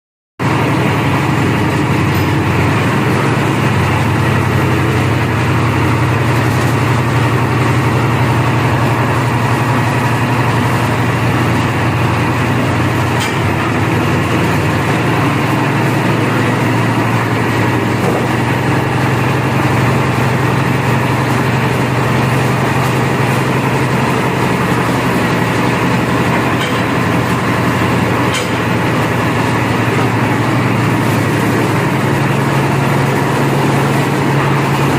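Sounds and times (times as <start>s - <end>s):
concrete mixer running: 0.4s - 34.9s.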